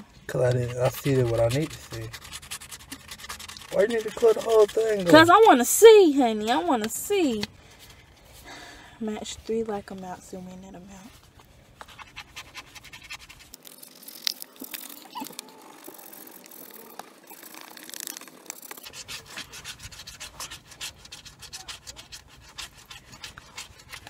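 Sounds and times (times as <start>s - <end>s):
scratching lottery ticket: 0.3s - 7.5s, 11.9s - 24.0s.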